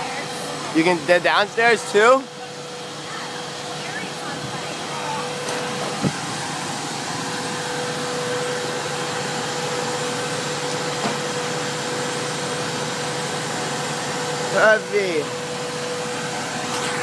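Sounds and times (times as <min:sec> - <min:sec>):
fire engine pump whirring: 0:00.0 - 0:17.0.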